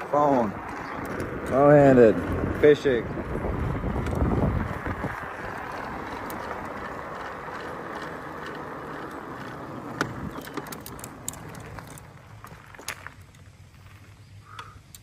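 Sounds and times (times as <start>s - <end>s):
bicycle tyre and wind noise: 0.0s - 15.0s
sharp clicks and rattles: 0.7s - 13.4s.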